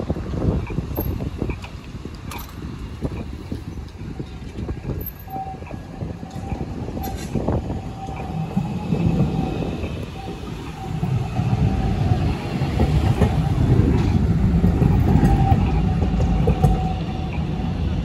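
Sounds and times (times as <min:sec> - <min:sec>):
tram wheels rumbling on rail: 0:00.0 - 0:18.0.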